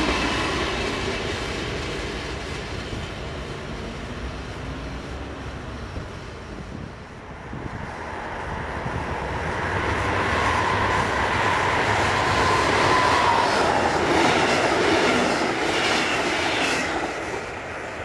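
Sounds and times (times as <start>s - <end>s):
diesel locomotive engine approaching: 0.0s - 18.0s.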